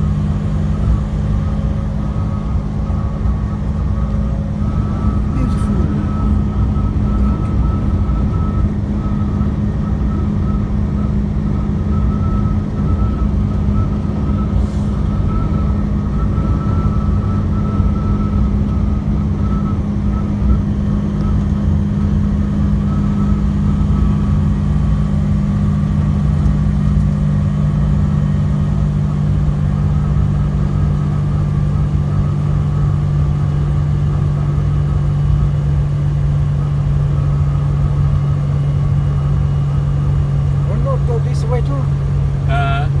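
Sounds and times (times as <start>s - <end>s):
truck engine and road rumble: 0.0s - 43.0s.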